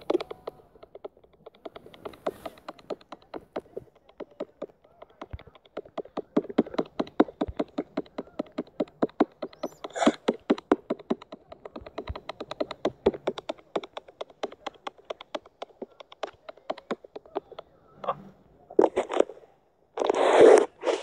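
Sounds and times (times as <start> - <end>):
touchscreen typing clicks: 0.0 - 17.7.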